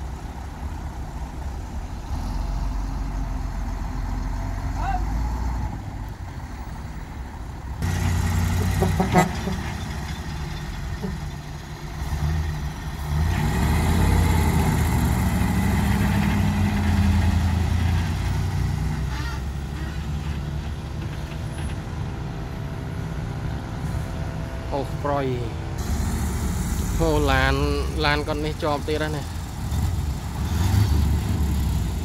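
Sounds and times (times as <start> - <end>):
heavy diesel engines working: 0.0 - 32.0.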